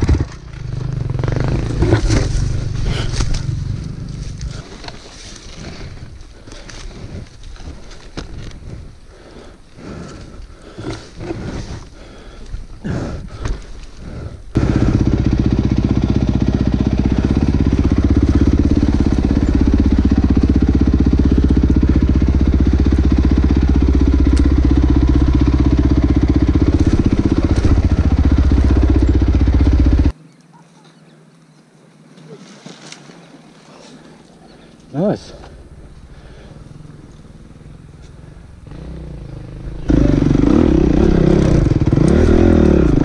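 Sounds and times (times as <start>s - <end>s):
dirt bike engine running: 0.0s - 30.2s, 35.4s - 43.0s.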